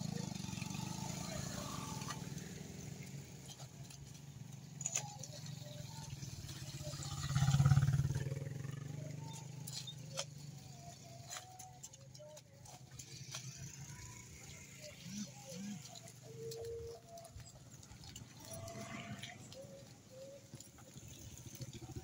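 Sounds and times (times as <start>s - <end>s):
small motorcycle engine passing: 0.0s - 22.0s.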